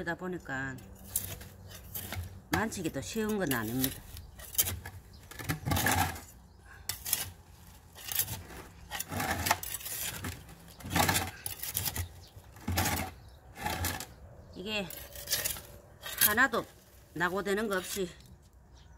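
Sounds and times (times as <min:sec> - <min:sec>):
metal trowel scraping potting mix: 0:00.7 - 0:18.4.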